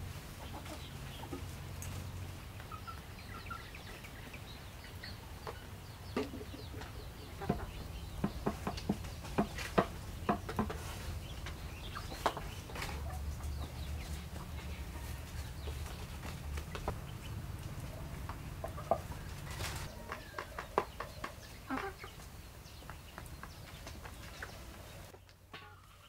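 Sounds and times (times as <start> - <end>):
chicken clucking: 0.2 - 26.0.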